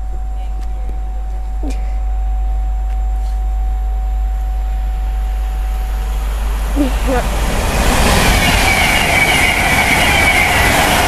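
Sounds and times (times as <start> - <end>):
high-pitched whine: 0.0 - 11.0
train low rumble: 0.0 - 11.0.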